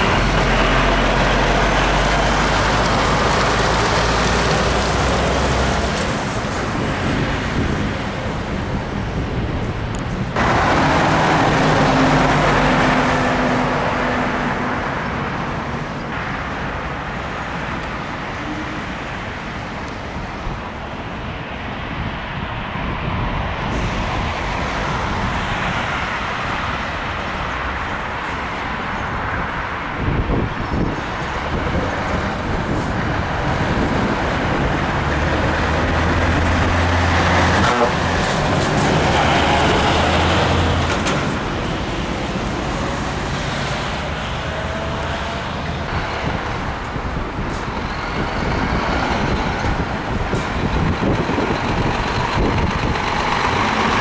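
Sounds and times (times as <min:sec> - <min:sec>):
heavy trucks driving past: 0:00.0 - 0:21.3, 0:22.8 - 0:54.0.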